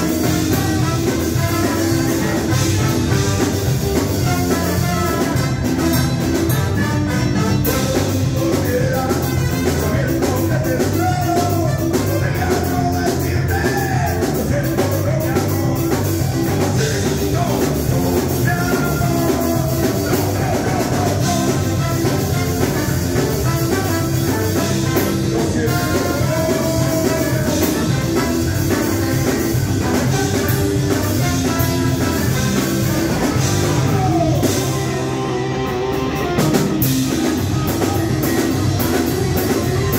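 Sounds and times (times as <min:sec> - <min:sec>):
ska band playing live: 0:00.0 - 0:39.9.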